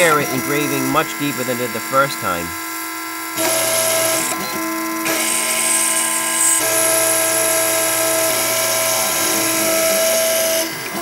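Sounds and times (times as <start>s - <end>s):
engraver spindle whine: 0.0s - 11.0s.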